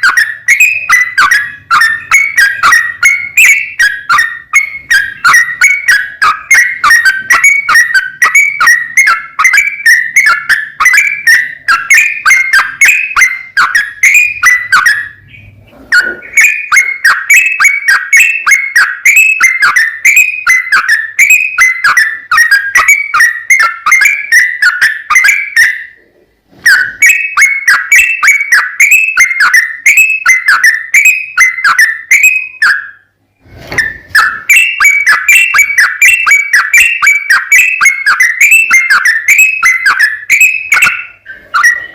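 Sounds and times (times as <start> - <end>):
bird singing fast chirps: 0.0 - 26.0, 26.7 - 33.1, 33.8 - 41.9.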